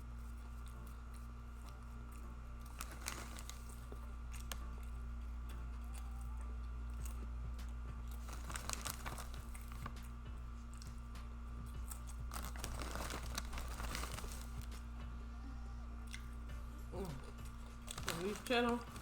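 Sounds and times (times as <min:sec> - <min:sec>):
chewing: 0:00.0 - 0:14.9, 0:16.0 - 0:19.0
crackles and crinkles: 0:00.0 - 0:15.1, 0:17.0 - 0:19.0
steady electrical hum: 0:00.0 - 0:19.0.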